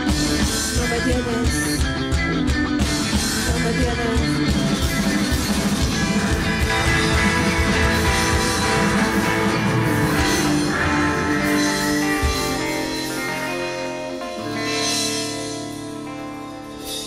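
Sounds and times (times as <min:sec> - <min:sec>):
drum kit: 0:00.0 - 0:17.0
electric guitar: 0:00.0 - 0:17.0.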